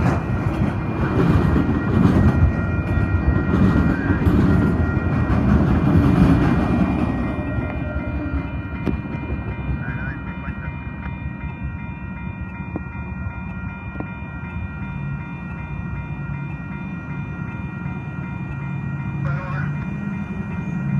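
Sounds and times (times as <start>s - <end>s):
crossing warning bell ringing: 0.0s - 20.9s
freight train rumbling: 0.0s - 20.9s.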